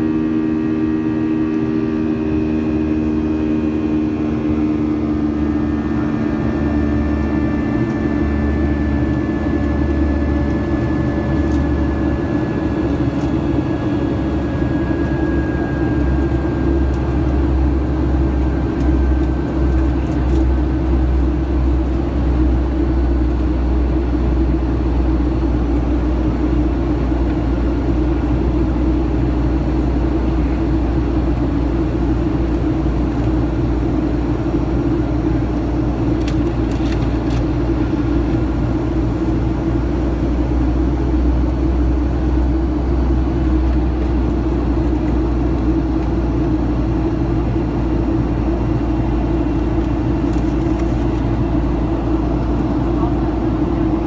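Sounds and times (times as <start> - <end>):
jet engine cabin roar: 0.0 - 54.0
thin engine whine: 0.0 - 54.0.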